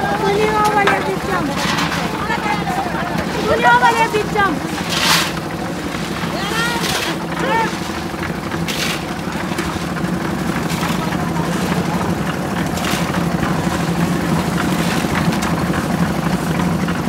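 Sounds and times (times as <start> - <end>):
concrete mixer churning: 0.0 - 17.0
shovels scraping in gravel: 0.9 - 15.6.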